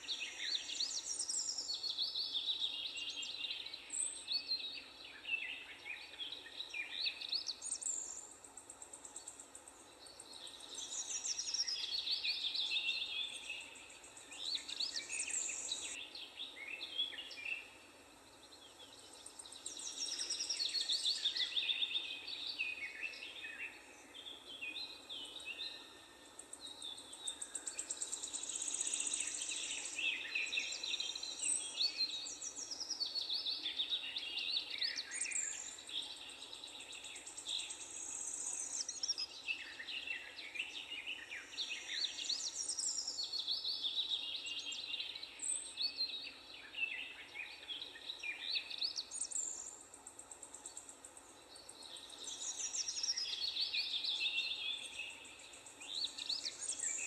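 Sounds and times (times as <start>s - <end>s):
birds singing and chirping: 0.0s - 17.8s, 18.4s - 57.0s
faint steady background noise: 0.0s - 57.0s.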